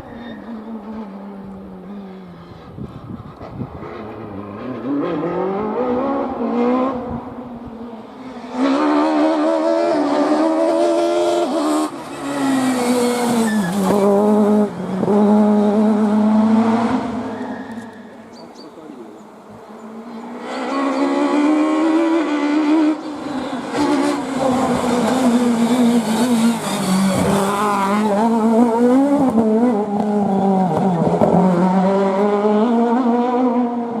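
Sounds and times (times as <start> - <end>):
rally car engine revving: 0.6 - 18.5, 19.6 - 34.0.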